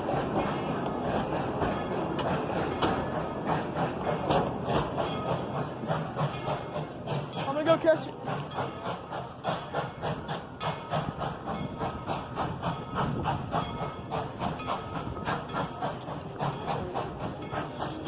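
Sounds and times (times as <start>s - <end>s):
steam hiss: 0.0s - 18.0s
steam locomotive chuffing: 0.0s - 18.0s.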